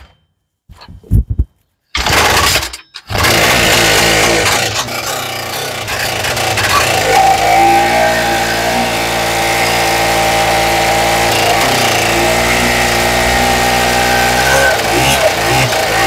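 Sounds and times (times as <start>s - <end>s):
two-stroke engine running: 3.1s - 16.0s.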